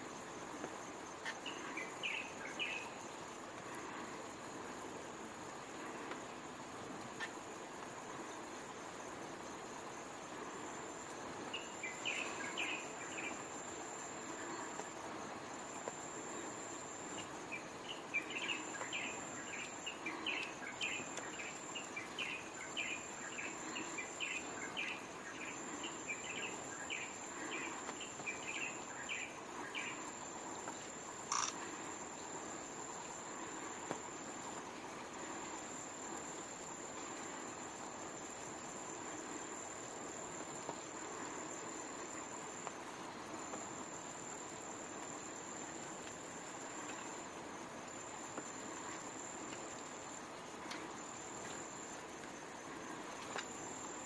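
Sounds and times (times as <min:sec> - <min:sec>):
high insect buzz: 0:00.0 - 0:54.0.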